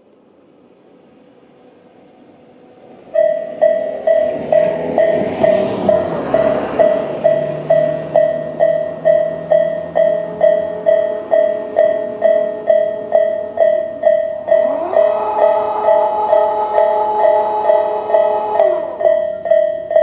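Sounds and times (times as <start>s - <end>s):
rush of noise: 2.2s - 20.0s
level crossing warning bell: 3.0s - 20.0s.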